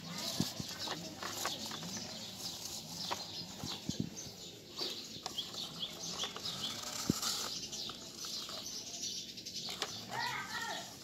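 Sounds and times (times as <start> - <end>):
small birds chirping: 0.0 - 11.0
toy excavator scraping dirt: 0.0 - 11.0.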